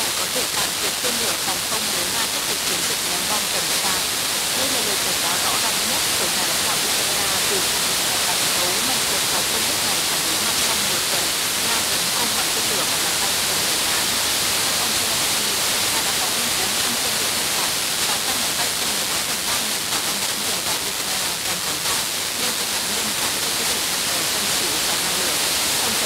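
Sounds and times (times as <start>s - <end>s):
faint woman talking on radio: 0.0s - 26.0s
radio receiver hiss: 0.0s - 26.0s.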